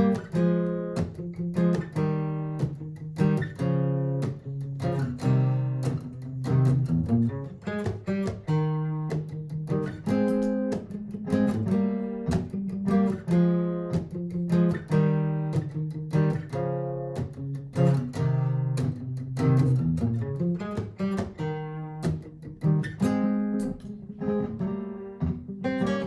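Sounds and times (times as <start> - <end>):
acoustic guitar picked notes: 0.0 - 26.0
repeating guitar loop: 0.0 - 26.0.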